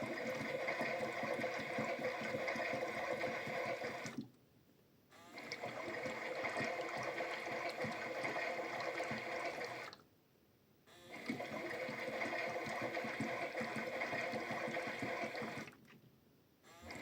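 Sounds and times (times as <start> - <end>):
toy washing machine motor: 0.0 - 4.2, 5.2 - 10.0, 10.9 - 15.8, 16.7 - 17.0.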